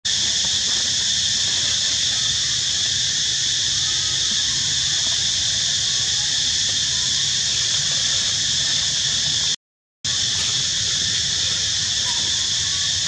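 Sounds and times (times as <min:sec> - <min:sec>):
insect chorus drone: 0:00.1 - 0:13.0.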